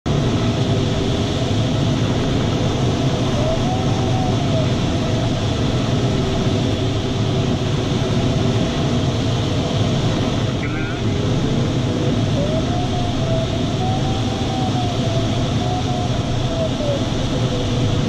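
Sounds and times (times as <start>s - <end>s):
airflow rushing over glider canopy: 0.1s - 18.0s.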